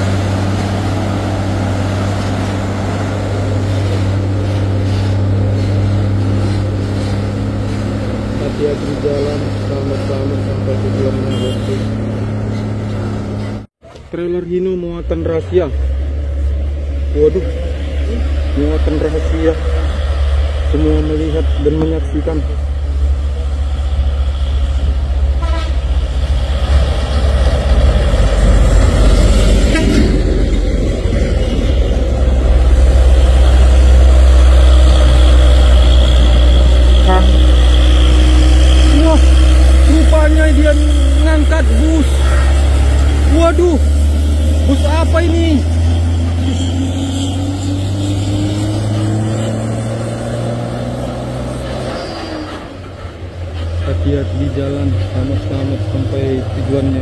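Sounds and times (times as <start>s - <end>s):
truck diesel engine rumbling: 0.0s - 57.0s.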